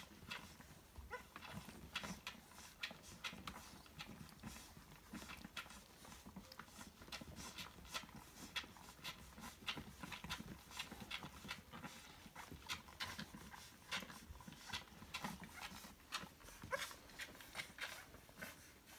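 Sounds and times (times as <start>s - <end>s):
puppies suckling wet clicking: 0.0s - 18.9s.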